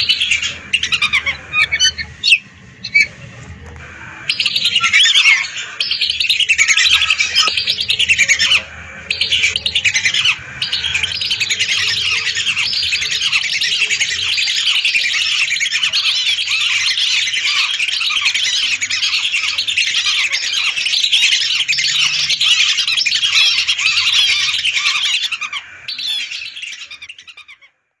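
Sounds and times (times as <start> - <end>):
whistling ducks calling: 0.0 - 27.7.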